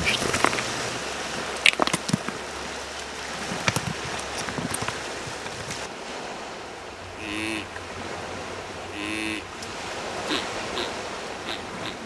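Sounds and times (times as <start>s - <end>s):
open-air background hiss: 0.0s - 12.0s.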